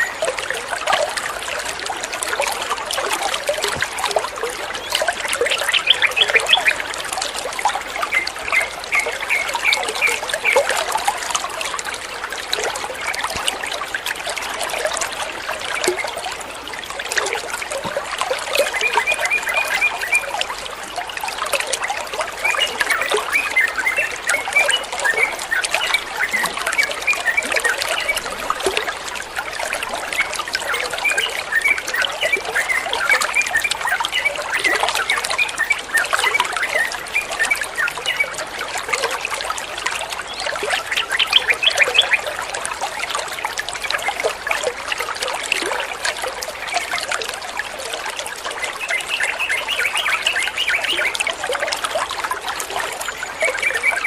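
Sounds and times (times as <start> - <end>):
water trickling and burbling: 0.0 - 54.0.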